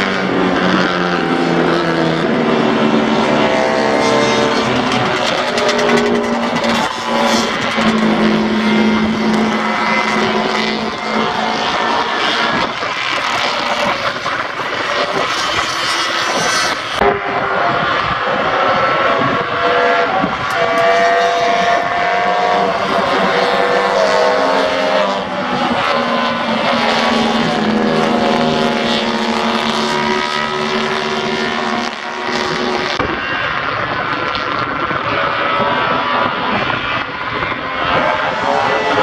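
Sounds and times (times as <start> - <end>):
racing motorcycles passing: 0.0 - 39.0.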